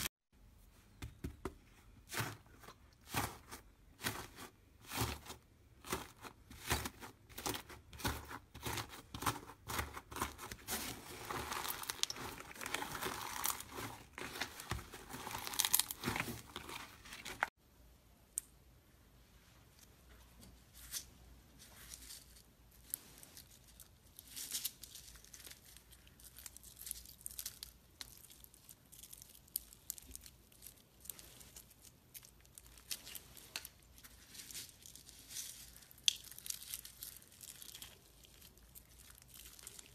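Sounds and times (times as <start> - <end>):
slime crackling and crunching: 2.1 - 17.6, 22.9 - 39.9.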